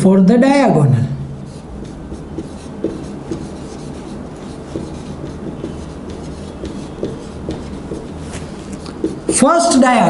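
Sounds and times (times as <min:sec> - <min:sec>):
steady low hum: 0:00.9 - 0:09.9
marker squeaking on whiteboard: 0:01.4 - 0:09.8.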